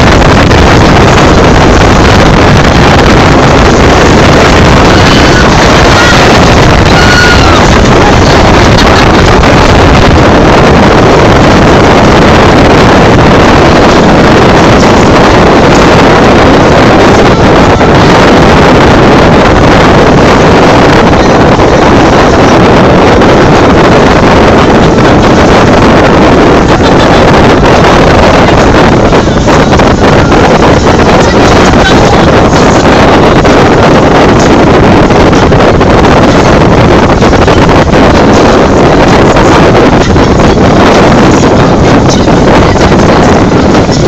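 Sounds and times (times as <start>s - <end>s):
boat engine: 0.0s - 44.0s
wind noise on microphone: 0.0s - 44.0s.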